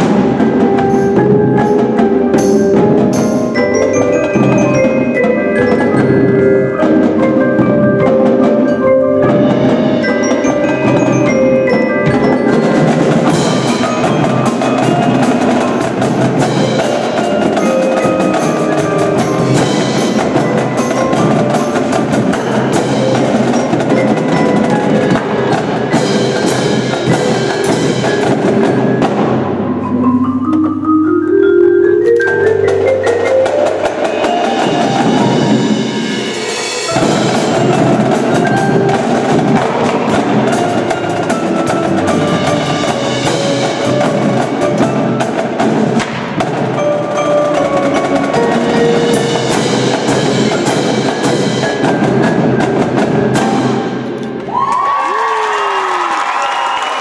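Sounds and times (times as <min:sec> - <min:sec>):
cymbals: 0:00.0 - 0:30.9, 0:32.0 - 0:57.0
drumline of snares and bass drums: 0:00.0 - 0:30.9, 0:32.0 - 0:57.0
marimbas and mallet keyboards: 0:00.0 - 0:54.4.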